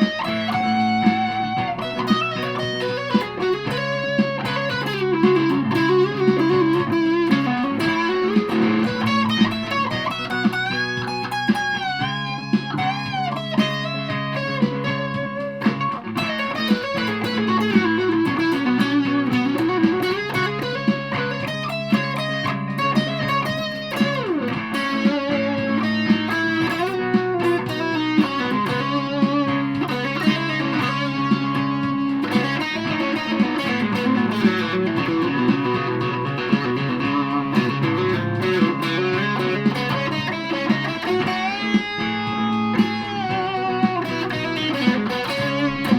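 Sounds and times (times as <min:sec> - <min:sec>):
fuzz electric guitar lead: 0:00.0 - 0:45.9
steady beat: 0:00.0 - 0:45.9.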